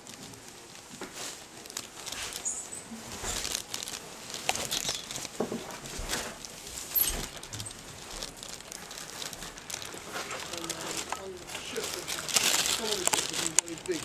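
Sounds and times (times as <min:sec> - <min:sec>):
rustling handling noise: 0:00.0 - 0:14.0.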